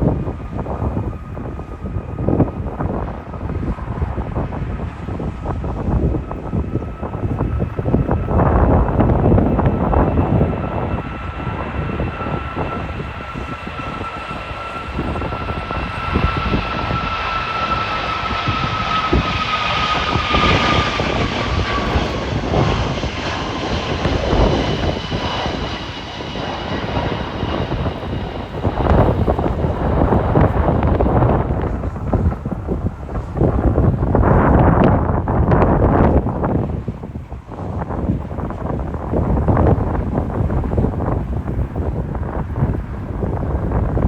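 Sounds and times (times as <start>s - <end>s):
jet engines roaring: 0.0s - 44.0s
wind buffeting microphone: 0.0s - 44.0s.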